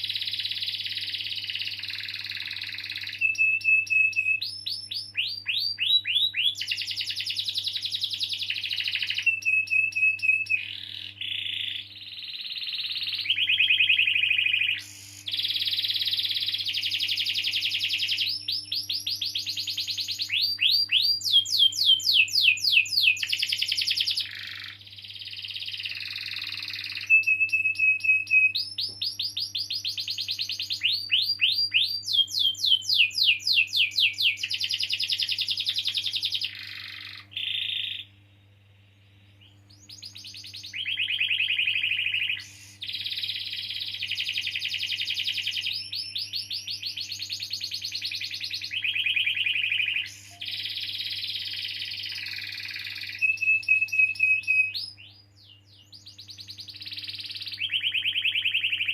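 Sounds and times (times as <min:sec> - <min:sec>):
canary singing trills: 0:00.0 - 0:38.2, 0:38.9 - 0:58.9
faint electrical hum: 0:00.0 - 0:58.9.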